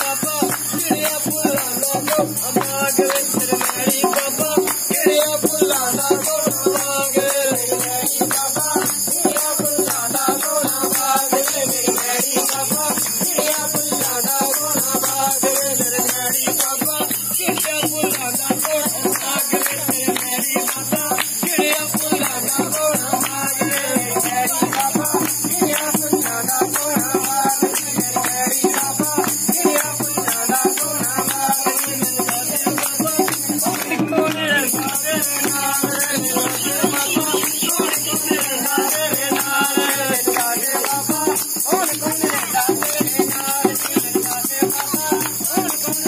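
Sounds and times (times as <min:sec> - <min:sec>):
group singing devotional song: 0:00.0 - 0:46.0
hand clapping: 0:00.0 - 0:46.0
jingling percussion: 0:00.0 - 0:46.0.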